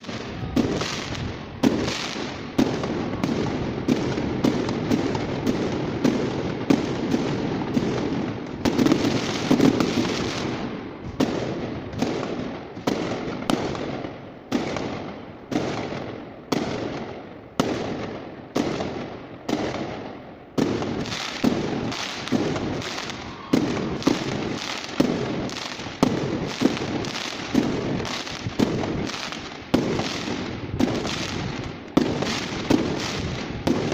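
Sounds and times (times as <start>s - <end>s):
firework crackling: 0.0s - 33.9s.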